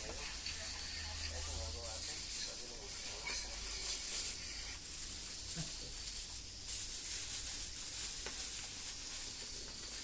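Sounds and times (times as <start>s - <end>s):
fire crackle: 0.0s - 10.0s
fire hissing and sizzling: 0.0s - 10.0s.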